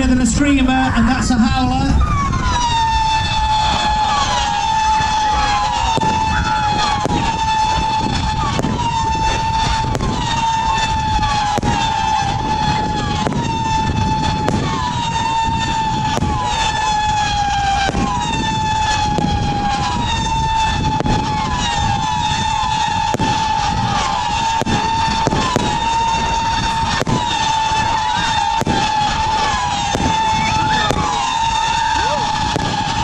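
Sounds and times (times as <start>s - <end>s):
firework howling whistle: 0.0s - 33.0s
firework cracks: 1.9s - 33.0s.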